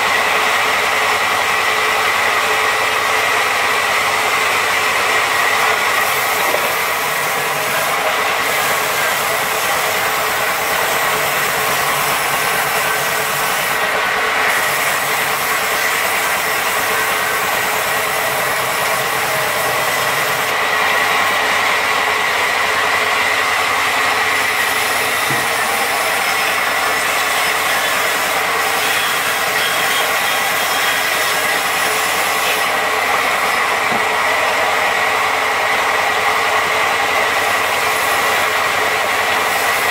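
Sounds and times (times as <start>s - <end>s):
band saw cutting through log: 0.0s - 39.9s.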